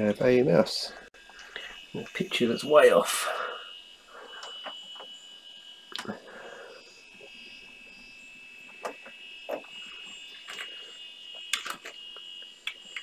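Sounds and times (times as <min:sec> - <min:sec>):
computer high-pitched whine: 0:00.0 - 0:13.0.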